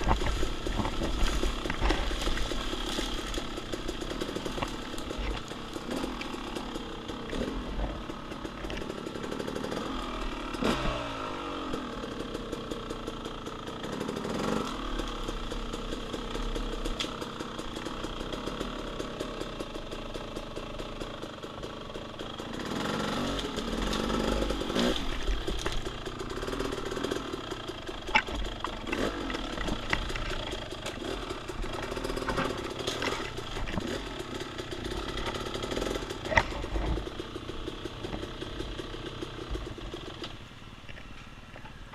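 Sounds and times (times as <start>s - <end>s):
dirt bike engine revving: 0.0s - 40.3s.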